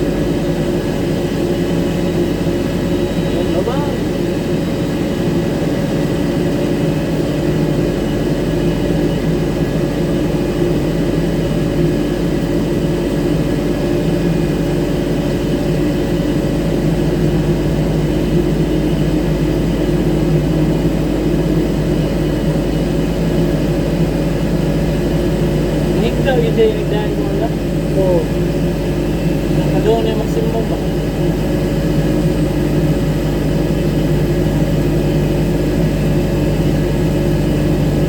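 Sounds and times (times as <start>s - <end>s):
jet airliner turbine whine: 0.0s - 38.0s.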